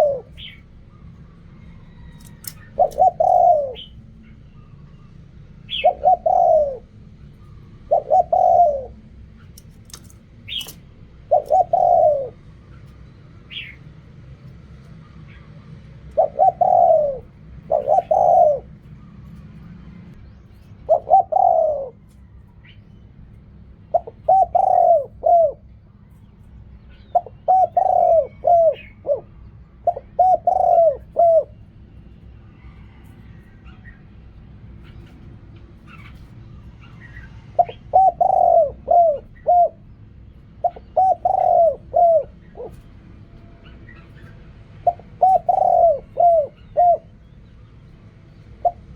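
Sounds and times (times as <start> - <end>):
dove cooing: 0.0 - 4.9, 5.5 - 13.9, 14.8 - 19.8, 20.8 - 22.4, 23.6 - 25.9, 26.9 - 31.8, 32.5 - 48.9.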